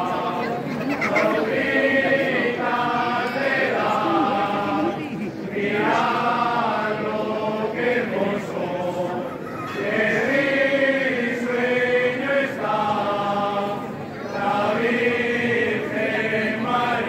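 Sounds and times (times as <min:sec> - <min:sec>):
group singing a carol: 0:00.0 - 0:17.0.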